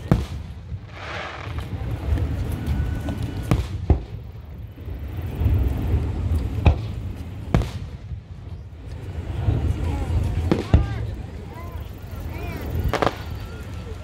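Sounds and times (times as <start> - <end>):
firework bangs: 0.0 - 11.4, 12.8 - 14.0
low continuous rumble: 0.0 - 14.0.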